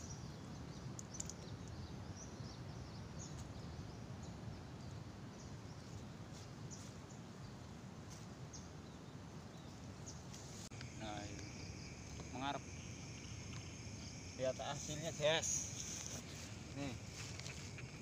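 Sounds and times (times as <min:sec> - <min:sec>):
steady low hiss: 0:00.0 - 0:18.0.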